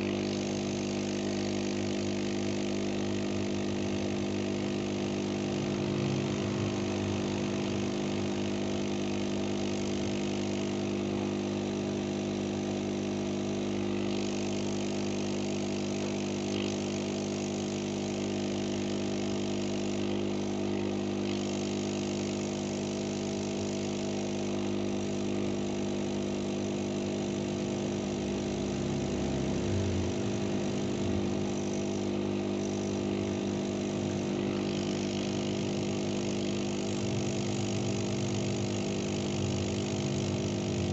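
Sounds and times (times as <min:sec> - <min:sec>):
motor humming: 0:00.0 - 0:40.9.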